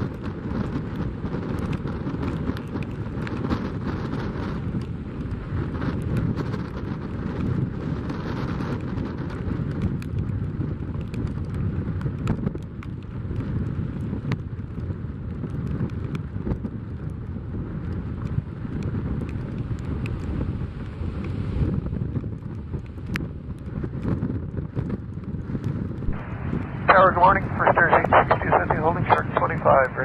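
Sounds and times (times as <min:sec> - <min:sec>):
rain ticking on microphone: 0:00.0 - 0:30.0
wind buffeting microphone: 0:00.0 - 0:30.0.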